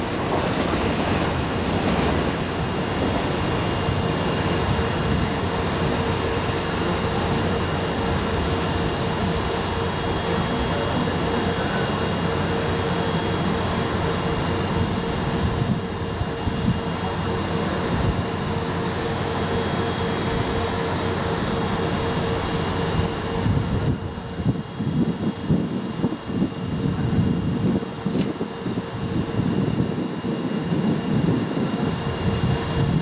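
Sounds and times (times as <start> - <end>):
electric locomotive machinery hum: 0.0 - 33.0.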